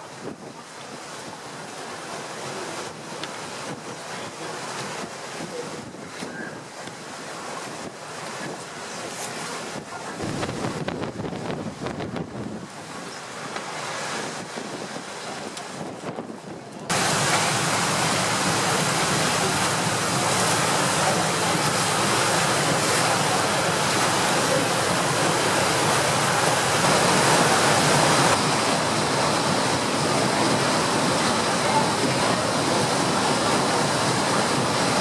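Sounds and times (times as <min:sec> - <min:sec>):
churned water rushing: 0:00.0 - 0:35.0
wind: 0:00.0 - 0:35.0.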